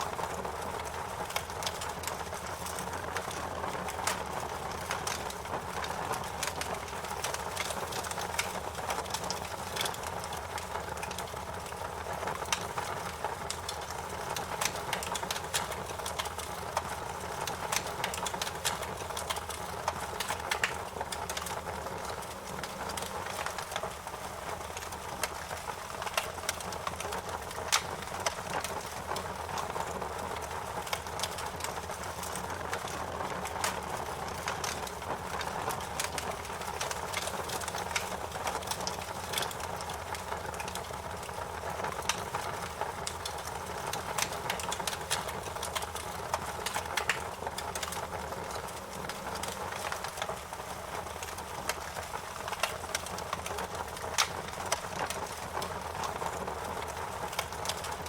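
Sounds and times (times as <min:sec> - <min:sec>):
fire pops and snaps: 0:00.0 - 0:58.0
hiss of burning wood: 0:00.0 - 0:58.0.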